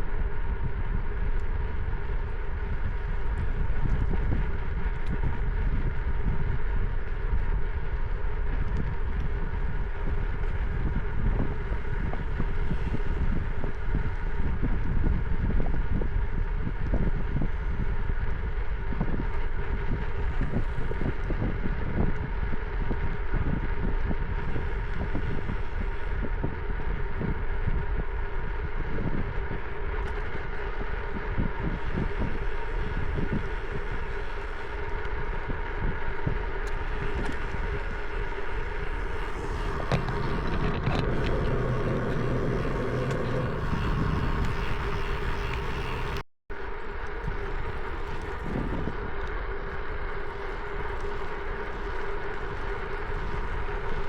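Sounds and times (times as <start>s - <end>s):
hum of held tones: 0.0s - 54.0s
wind buffeting microphone: 0.0s - 54.0s.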